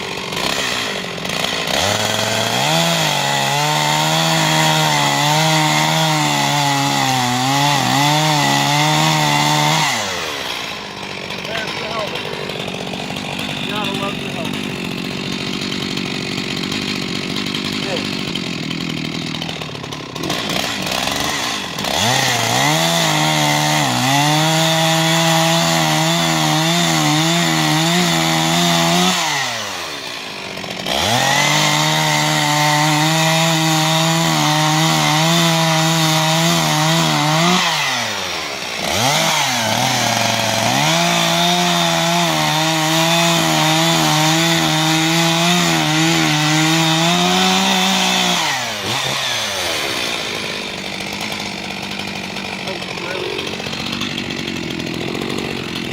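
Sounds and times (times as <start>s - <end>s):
chainsaw cutting a tree: 0.0s - 55.9s.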